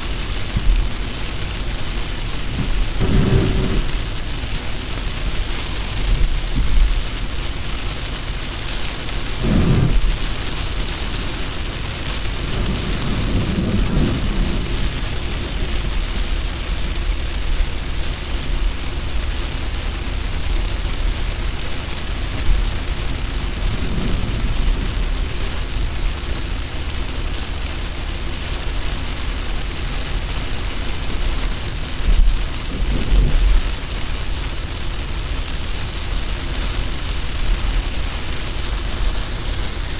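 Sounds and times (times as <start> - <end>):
rain striking car: 0.0 - 39.9
road and wind noise: 0.0 - 39.9.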